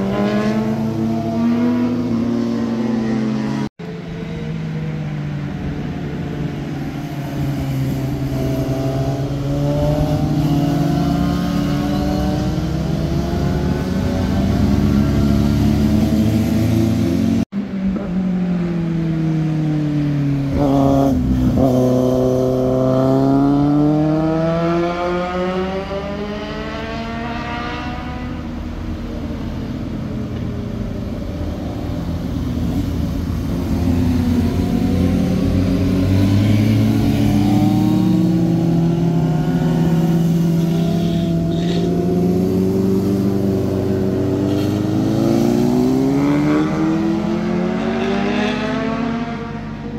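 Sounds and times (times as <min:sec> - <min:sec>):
motorcycle engines revving past: 0:00.0 - 0:04.4, 0:06.4 - 0:19.4, 0:20.1 - 0:49.9.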